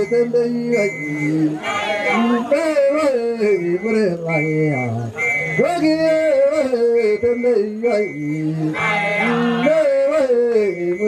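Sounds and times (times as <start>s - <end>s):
man singing into a microphone: 0.0s - 11.0s
voices singing chant: 0.0s - 11.0s.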